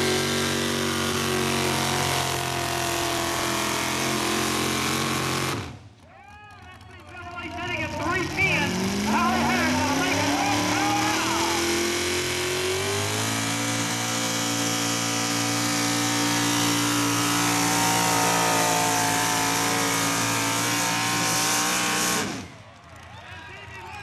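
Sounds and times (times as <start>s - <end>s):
truck engine at full throttle: 0.0s - 5.9s, 6.7s - 23.0s.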